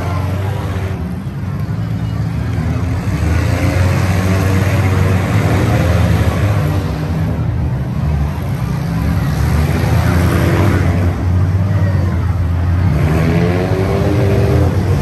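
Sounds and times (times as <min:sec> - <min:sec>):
car engines revving loudly: 0:00.0 - 0:15.0.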